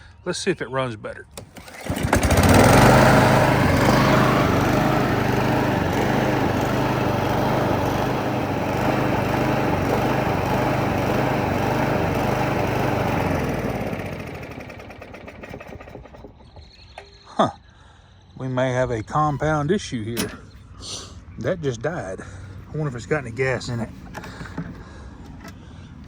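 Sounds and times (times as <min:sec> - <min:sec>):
lawn mower engine running: 0:01.3 - 0:17.3, 0:19.0 - 0:26.0.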